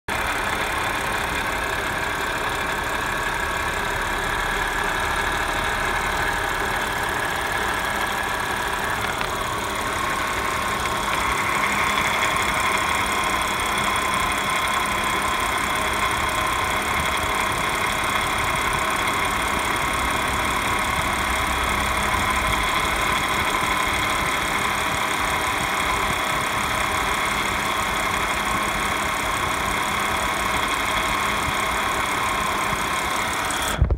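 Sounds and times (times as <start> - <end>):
car engine idling: 0.1 - 33.9
engine rattling: 0.1 - 33.9
high engine whine: 0.1 - 33.9.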